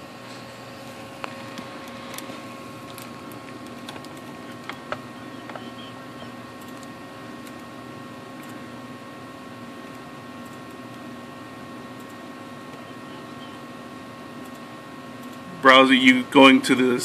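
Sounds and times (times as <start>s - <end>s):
computer equipment humming: 0.0s - 17.0s.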